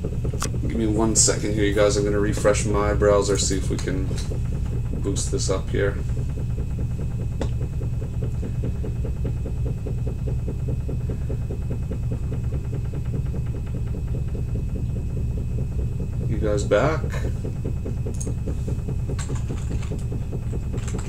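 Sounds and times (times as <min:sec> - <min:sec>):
low pulsing hum: 0:00.0 - 0:21.0.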